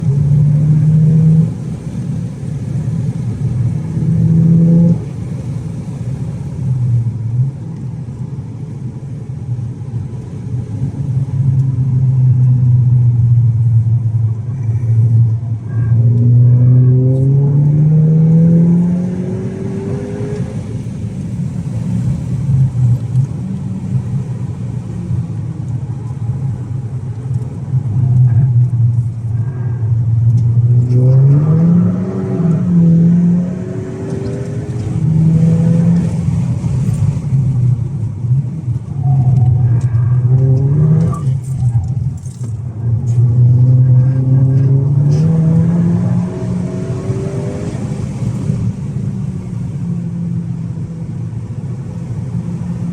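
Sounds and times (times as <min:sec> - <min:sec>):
car engine accelerating hard: 0:00.0 - 0:52.9.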